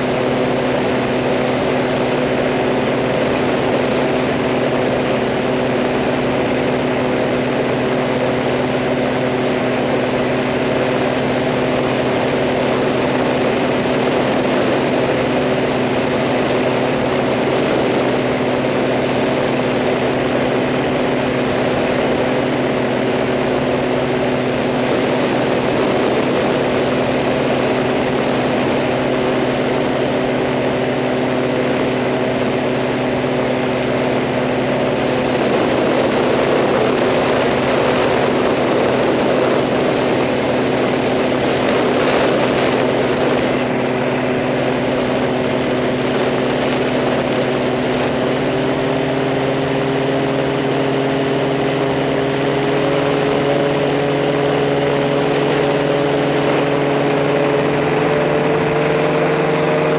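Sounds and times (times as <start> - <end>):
propellers humming: 0.0 - 59.9.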